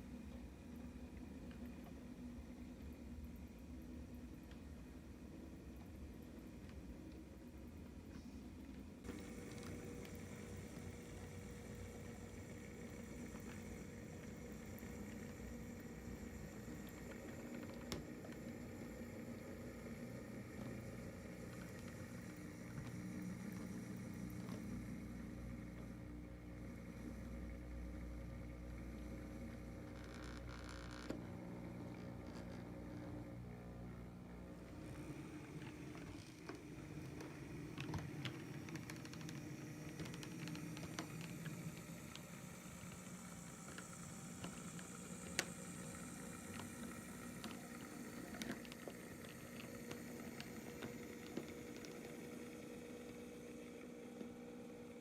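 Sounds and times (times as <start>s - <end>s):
model locomotive humming: 9.0s - 55.0s.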